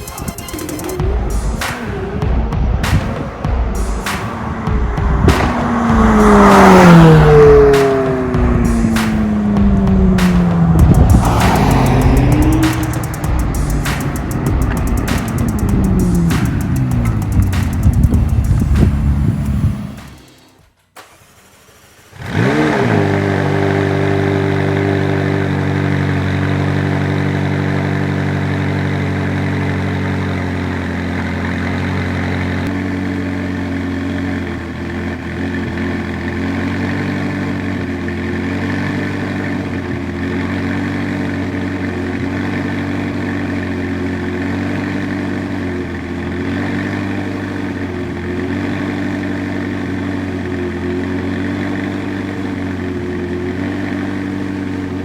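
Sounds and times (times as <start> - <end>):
car engine starting and idling: 0.0 - 55.0.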